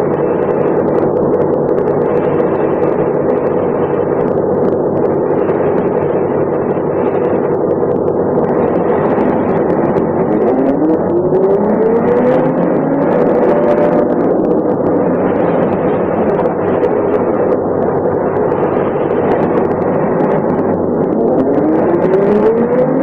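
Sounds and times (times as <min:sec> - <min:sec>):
bus diesel engine running: 0:00.0 - 0:22.2.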